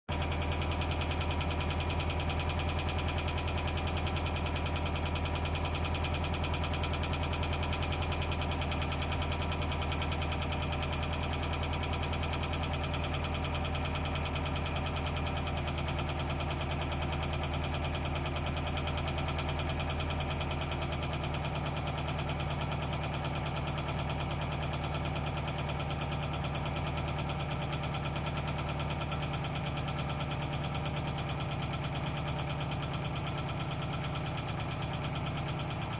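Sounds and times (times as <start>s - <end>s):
engine idling with rhythmic knock: 0.1s - 35.9s.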